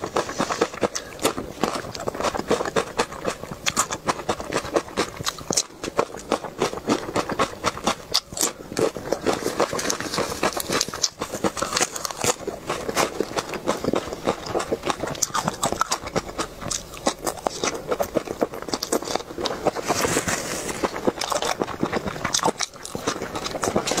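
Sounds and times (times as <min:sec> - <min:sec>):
close mouth chewing crunchy food: 0:00.0 - 0:24.0.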